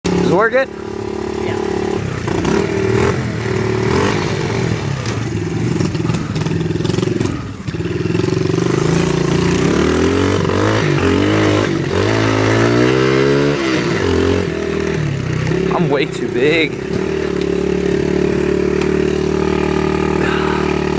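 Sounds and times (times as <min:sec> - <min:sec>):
off-road vehicle engine revving: 0:00.0 - 0:20.9.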